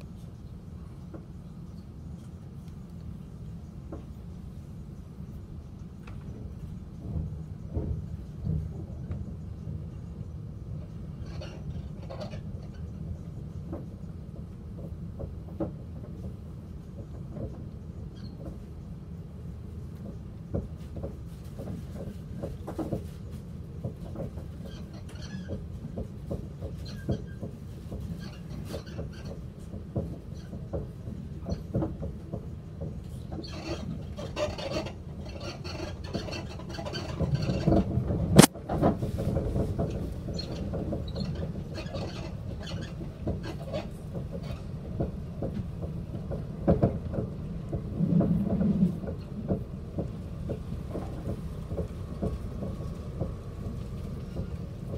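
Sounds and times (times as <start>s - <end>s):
vehicle cabin rumble: 0.0s - 54.9s
small rattles and knocks: 5.7s - 10.0s, 10.6s - 54.9s.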